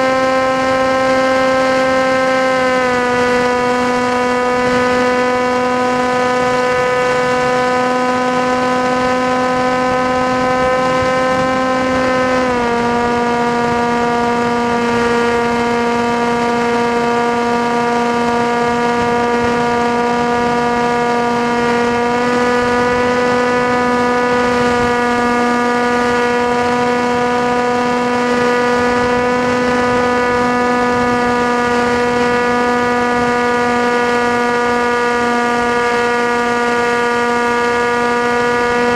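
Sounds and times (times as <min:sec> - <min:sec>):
model aircraft motor whine: 0:00.0 - 0:38.9.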